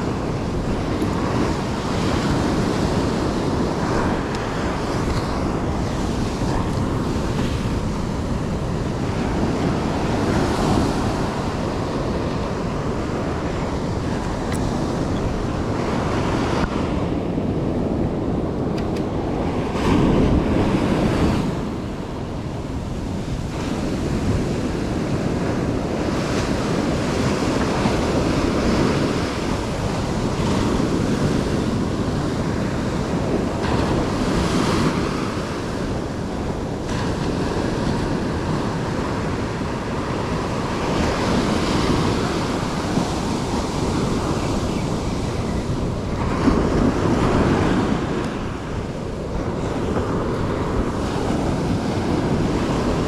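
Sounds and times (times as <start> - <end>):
surf breaking on shore: 0.0 - 53.0
wind buffeting microphone: 0.0 - 53.0.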